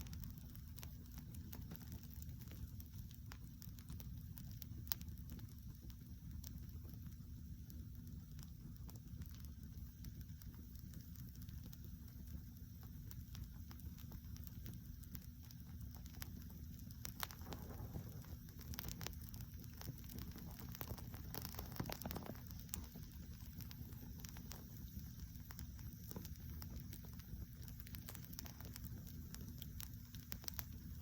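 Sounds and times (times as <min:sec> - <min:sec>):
low steady rumble: 0:00.0 - 0:31.0
wood fire crackling: 0:00.0 - 0:31.0.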